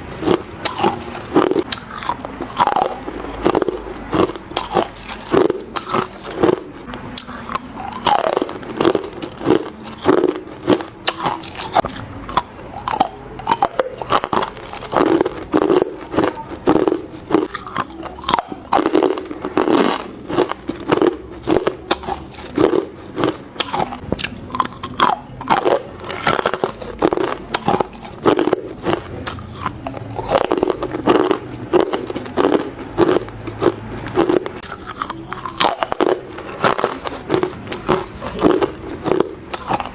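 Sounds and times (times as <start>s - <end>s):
ice cubes crunched by teeth: 0.2s - 6.6s, 7.2s - 39.9s.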